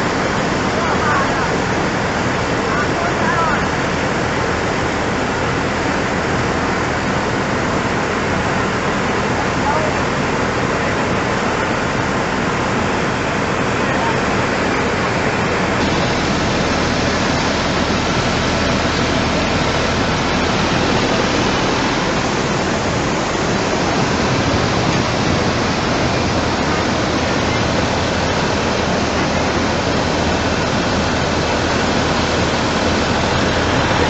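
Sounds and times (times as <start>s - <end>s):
flood water rushing: 0.0s - 34.0s.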